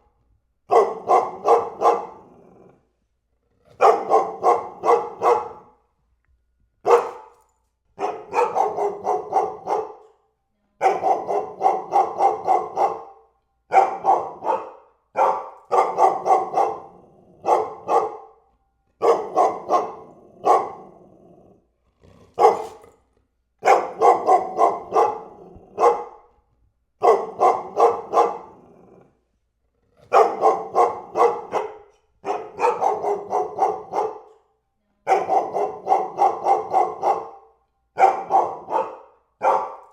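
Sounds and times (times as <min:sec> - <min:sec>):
dog barking: 0:00.7 - 0:02.4, 0:03.8 - 0:05.8, 0:06.8 - 0:21.1, 0:22.4 - 0:22.9, 0:23.6 - 0:26.4, 0:27.0 - 0:29.2, 0:30.1 - 0:39.9.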